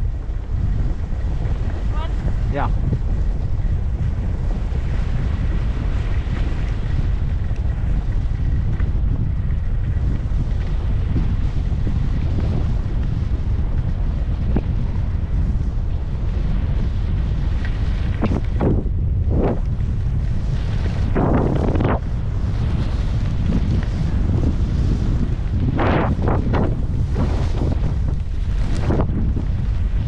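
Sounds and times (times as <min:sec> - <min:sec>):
skis sliding over snow: 0:00.0 - 0:30.0
wind buffeting microphone: 0:00.0 - 0:30.0.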